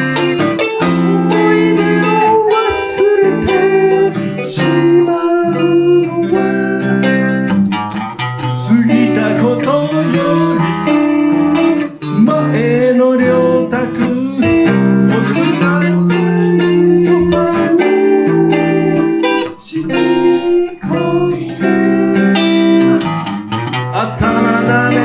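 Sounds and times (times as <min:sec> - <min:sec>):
electric guitar lead: 0:00.0 - 0:25.0.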